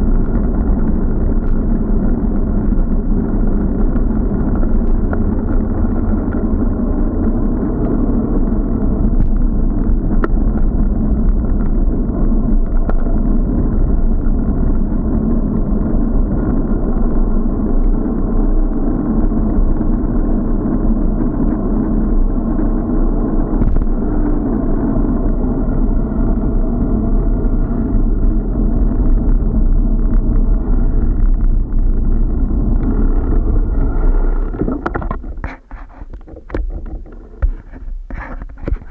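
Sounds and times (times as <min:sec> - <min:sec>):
road vibration rumble: 0:00.0 - 0:38.9
wind buffeting: 0:00.0 - 0:38.9.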